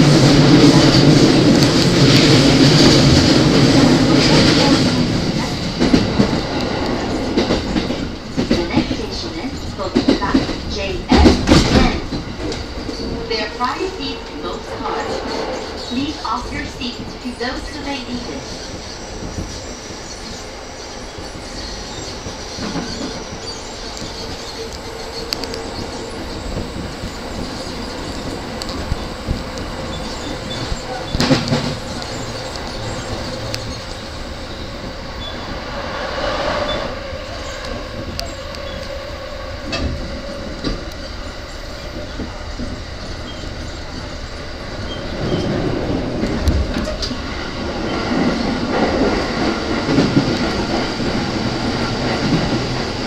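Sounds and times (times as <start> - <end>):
rail joint clicks: 0.0 - 53.0
train wheels rumbling on rail: 0.0 - 53.0.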